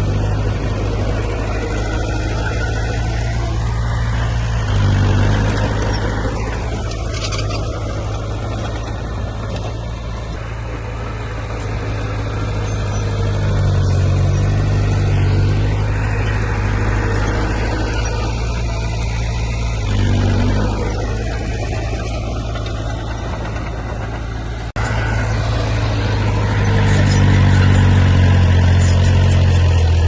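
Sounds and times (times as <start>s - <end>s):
heavy diesel engine humming: 0.0s - 30.0s.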